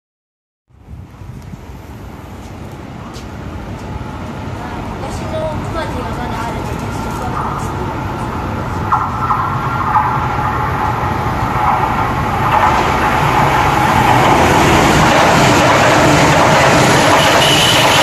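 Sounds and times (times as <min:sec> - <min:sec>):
high-speed train rushing past: 0:00.7 - 0:18.0.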